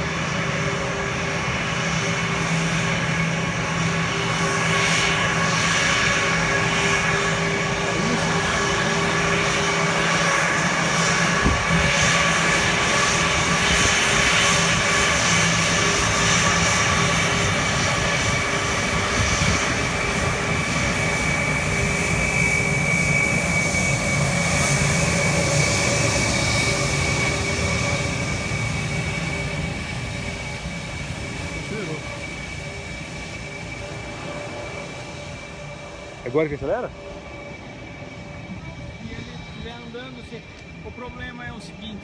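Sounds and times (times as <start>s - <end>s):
jet engines rushing and whining: 0.0s - 42.0s.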